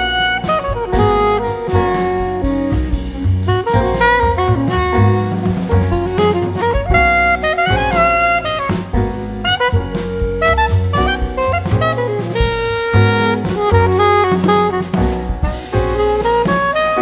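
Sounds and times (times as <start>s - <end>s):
melody over drum beat: 0.0s - 17.0s.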